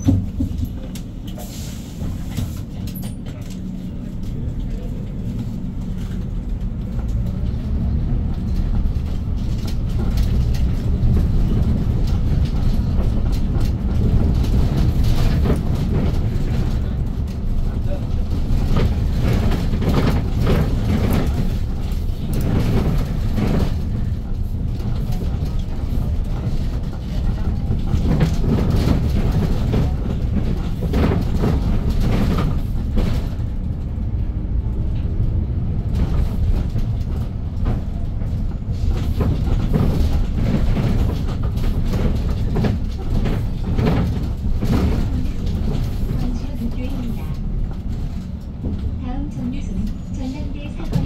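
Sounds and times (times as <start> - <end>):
bus fittings rattling: 0.0 - 34.0, 34.6 - 49.2
bus engine running: 0.0 - 51.0
road rumble: 0.0 - 51.0.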